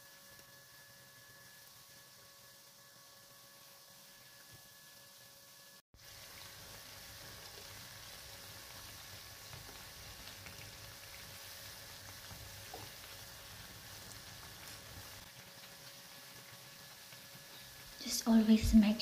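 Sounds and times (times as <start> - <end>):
dough deep-frying in oil: 0.0 - 19.0.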